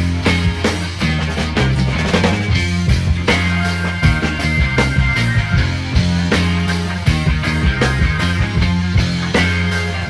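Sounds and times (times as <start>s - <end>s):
rock music with steady beat: 0.0s - 10.0s.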